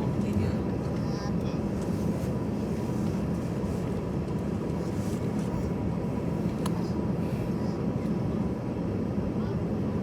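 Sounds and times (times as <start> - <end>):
aircraft cabin engine drone: 0.0 - 10.0.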